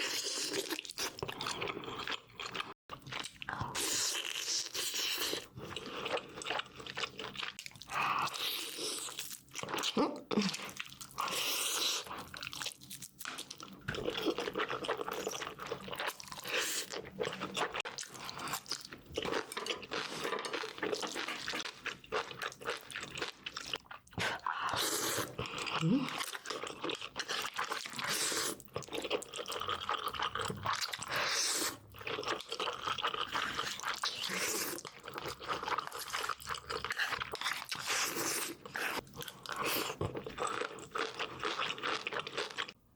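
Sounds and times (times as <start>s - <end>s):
person chewing crunchy food: 0.0s - 42.8s.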